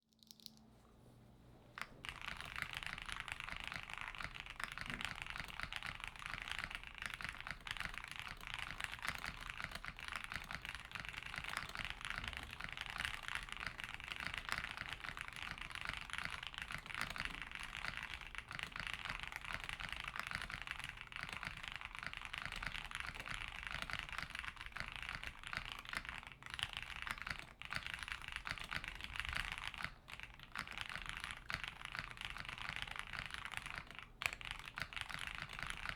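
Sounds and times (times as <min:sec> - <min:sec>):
fast typing on mechanical keyboard: 0:01.8 - 0:35.9.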